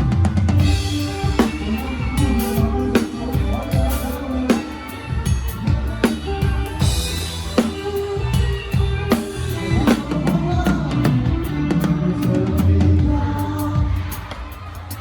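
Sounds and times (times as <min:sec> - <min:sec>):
drum kit beat: 0:00.0 - 0:15.0
live band music: 0:00.0 - 0:15.0.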